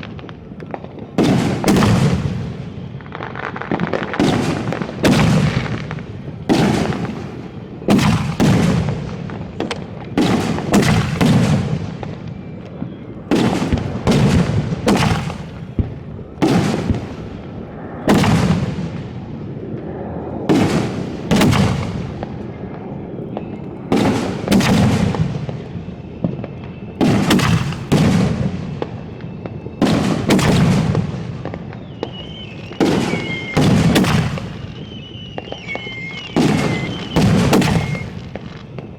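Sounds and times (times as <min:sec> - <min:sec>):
fireworks booming: 0:00.0 - 0:38.9.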